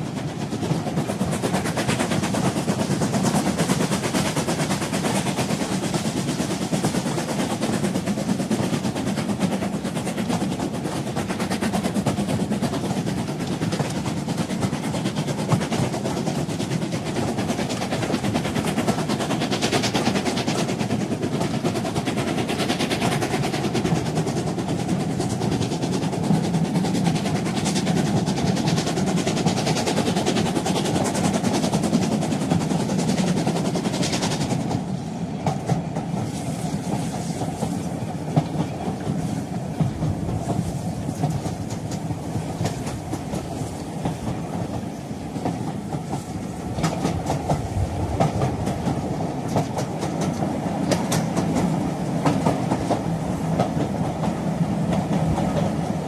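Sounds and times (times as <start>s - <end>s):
train rumbling on track: 0.0s - 56.0s
wheels clacking over rail joints: 0.0s - 56.0s.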